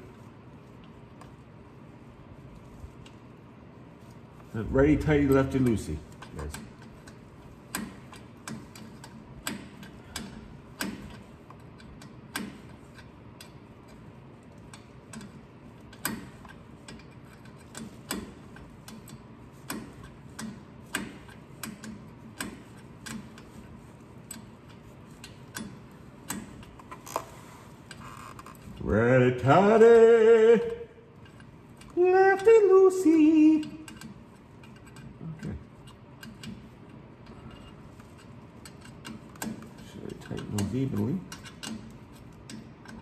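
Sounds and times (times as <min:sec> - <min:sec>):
wrench clicking on bolts: 0:04.7 - 0:27.2, 0:27.9 - 0:43.0.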